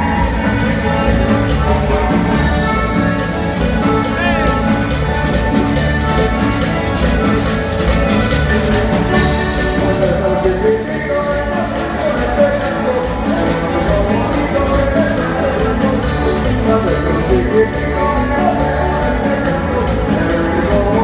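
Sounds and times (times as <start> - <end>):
conga drums: 0.0 - 21.0
electric bass: 0.0 - 21.0
live band playing dance music: 0.0 - 21.0.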